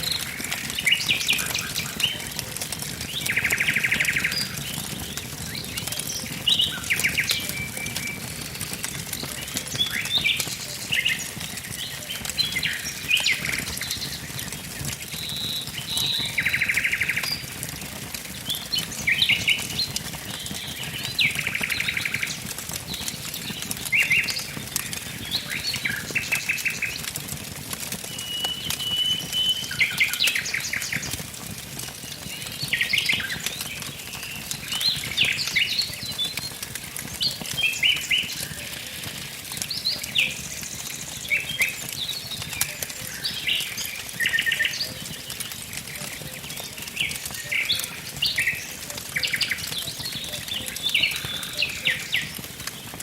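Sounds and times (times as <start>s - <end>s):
songbirds chirping and singing: 0.0s - 27.3s, 28.0s - 53.0s
wood fire crackling: 0.0s - 53.0s.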